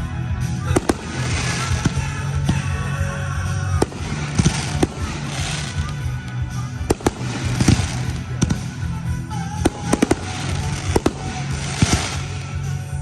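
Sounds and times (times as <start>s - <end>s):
firework crackling: 0.0s - 13.0s
firework booms: 0.6s - 12.8s.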